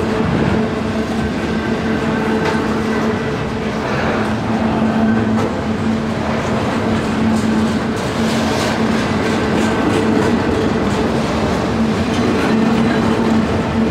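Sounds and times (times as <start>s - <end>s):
freight train rumbling past: 0.0s - 13.9s
train wheels clicking over rail joints: 0.0s - 13.9s.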